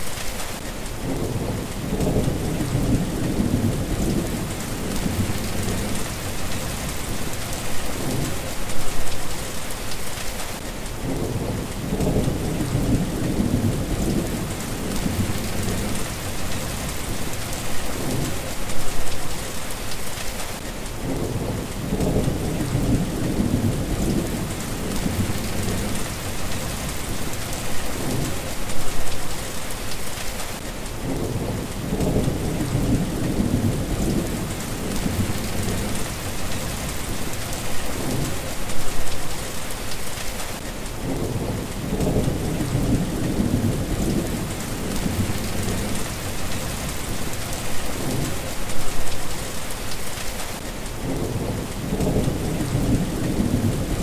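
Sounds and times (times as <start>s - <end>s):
rain hissing: 0.0s - 54.0s
thunder rumbling: 1.0s - 9.1s, 11.0s - 19.1s, 21.0s - 29.2s, 31.0s - 39.2s, 41.0s - 49.2s, 51.0s - 54.0s.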